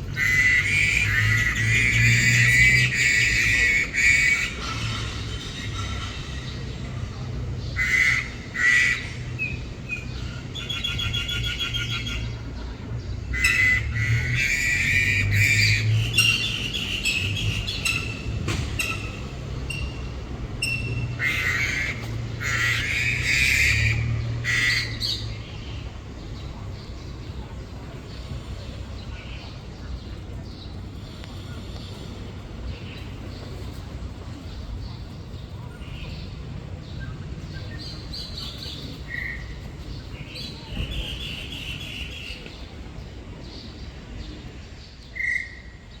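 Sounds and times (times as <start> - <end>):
birds squawking and chattering: 0.0 - 46.0.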